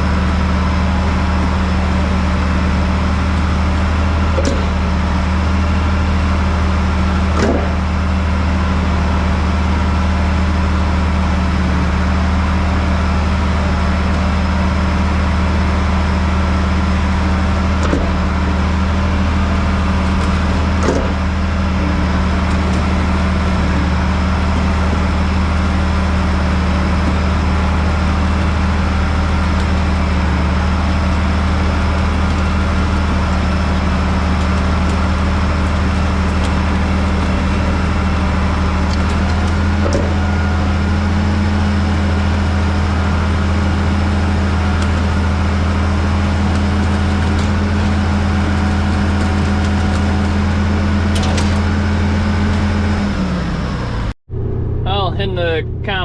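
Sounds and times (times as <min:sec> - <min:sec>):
heavy engine running: 0:00.0 - 0:56.0.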